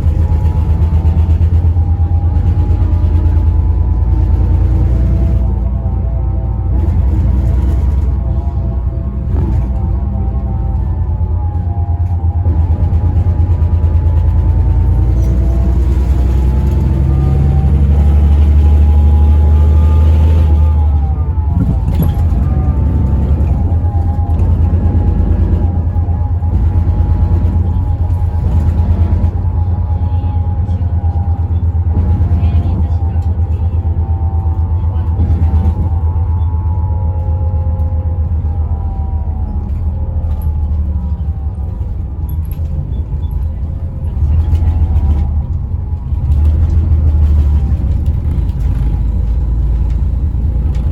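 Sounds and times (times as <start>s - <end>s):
diesel engine drone: 0.0s - 50.9s.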